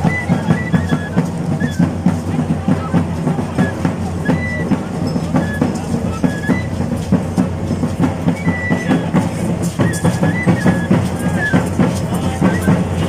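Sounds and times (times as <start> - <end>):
cane flute high notes: 0.0 - 7.1, 8.2 - 13.0
drum beating fast rhythm: 0.0 - 13.0.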